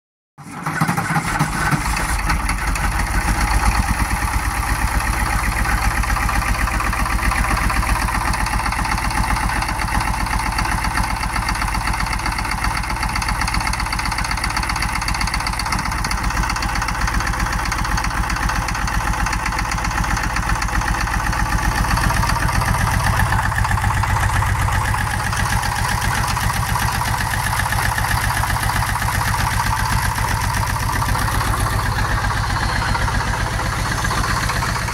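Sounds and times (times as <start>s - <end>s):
diesel engine idling: 1.1s - 34.9s.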